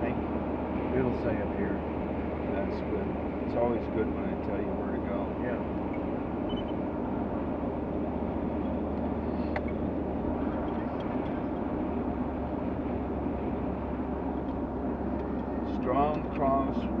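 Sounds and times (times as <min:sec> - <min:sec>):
road and engine noise in truck cab: 0:00.0 - 0:17.0.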